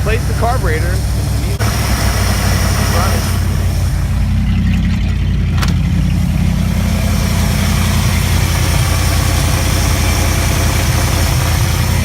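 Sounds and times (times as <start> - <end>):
pickup truck engine idling: 0.0 - 12.0.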